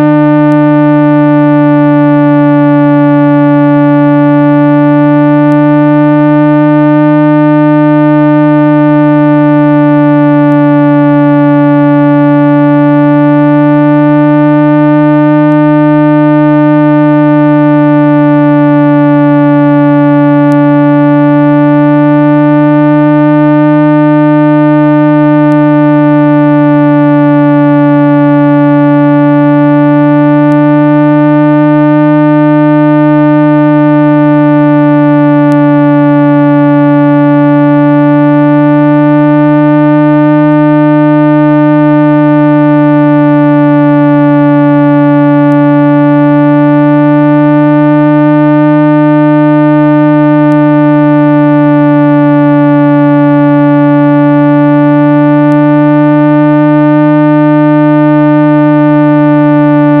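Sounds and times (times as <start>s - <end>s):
low synthesized hum tone: 0.0s - 60.0s.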